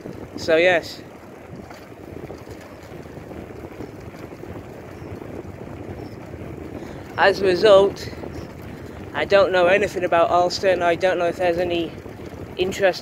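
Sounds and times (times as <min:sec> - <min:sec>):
bicycle tyres rolling on tarmac: 0:00.0 - 0:13.0
wind on microphone: 0:00.0 - 0:13.0.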